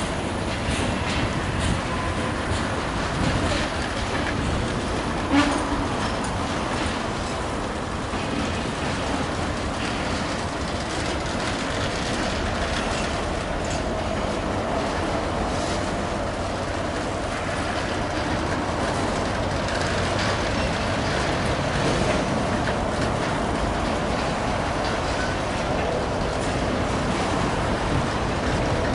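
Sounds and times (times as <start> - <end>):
clicks over rail joints: 0.0 - 28.9
train wheels rumbling on rails: 0.0 - 28.9.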